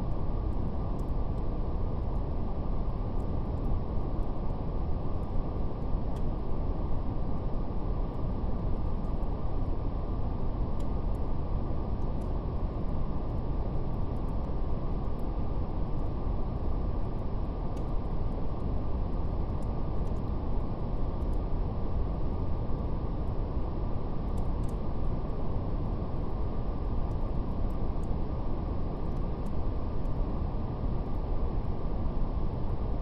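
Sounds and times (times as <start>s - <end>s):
faint fire crackles: 0.0s - 33.0s.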